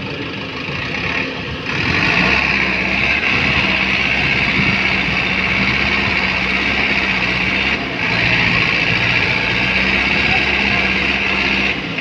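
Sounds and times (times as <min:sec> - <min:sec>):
backhoe loader engine: 0:00.0 - 0:12.0
diesel tractor engines running: 0:00.0 - 0:12.0.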